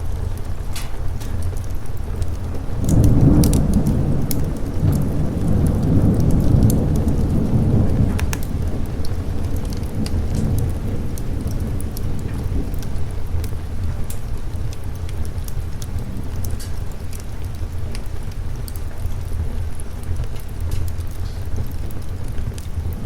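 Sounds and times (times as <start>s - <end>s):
sharp crackles: 0.0s - 23.0s
steady rain: 0.0s - 23.0s
thunder rumbling: 0.0s - 23.0s.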